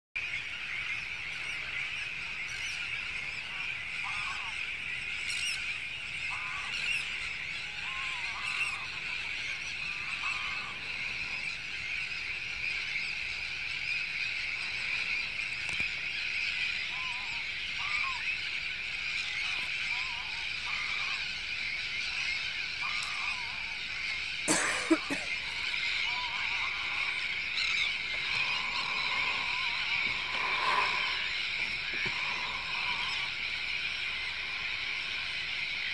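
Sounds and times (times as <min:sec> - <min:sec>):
waterfowl honking: 0:00.2 - 0:15.2, 0:16.3 - 0:35.9
high-pitched bird chorus: 0:00.2 - 0:35.9.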